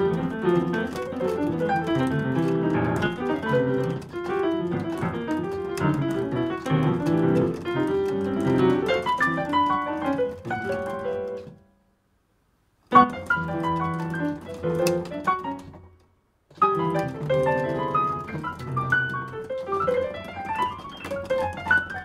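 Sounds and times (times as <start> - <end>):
digital piano playing: 0.0 - 11.6, 12.9 - 15.8, 16.6 - 22.0.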